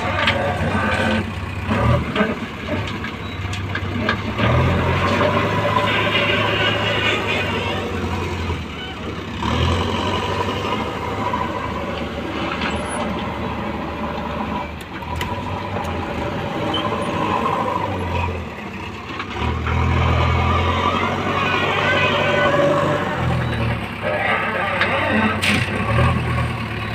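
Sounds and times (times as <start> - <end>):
heavy diesel machinery running: 0.0 - 26.9.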